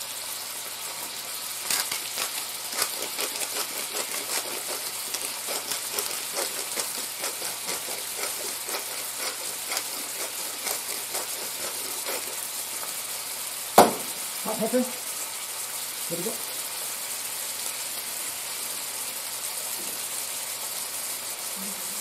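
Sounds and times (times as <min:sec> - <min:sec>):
squid frying in oil: 0:00.0 - 0:22.0.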